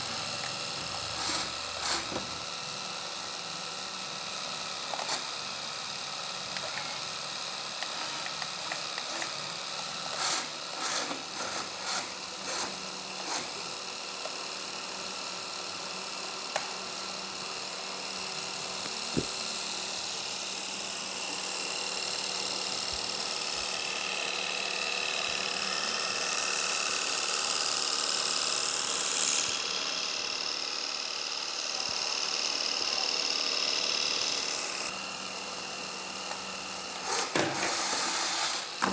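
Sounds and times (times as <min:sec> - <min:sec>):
small electric motor whirring: 0:00.0 - 0:38.9.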